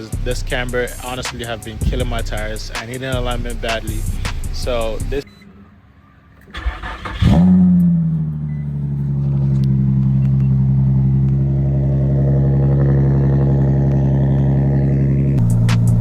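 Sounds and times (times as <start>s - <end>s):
car engine starting and idling: 0.0s - 5.2s, 6.3s - 16.0s.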